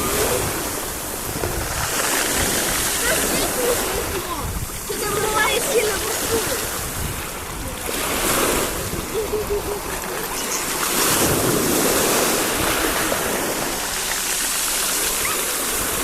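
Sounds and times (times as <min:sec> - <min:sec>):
sea surf breaking on shore: 0:00.0 - 0:16.0
wind buffeting microphone: 0:00.0 - 0:16.0.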